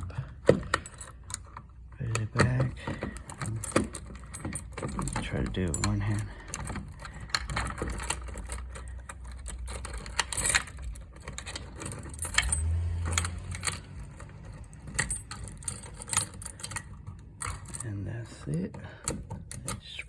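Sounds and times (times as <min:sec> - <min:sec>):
keys jangling: 0:00.0 - 0:18.0
alarm cover clicks and rattles: 0:00.0 - 0:20.0.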